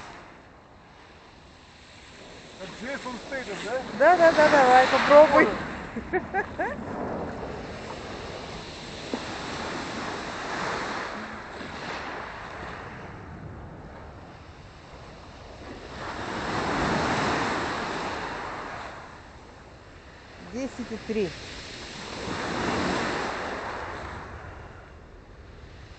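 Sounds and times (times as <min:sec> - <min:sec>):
surf washing onto beach: 0:00.0 - 0:25.9
wind on microphone: 0:00.0 - 0:25.9.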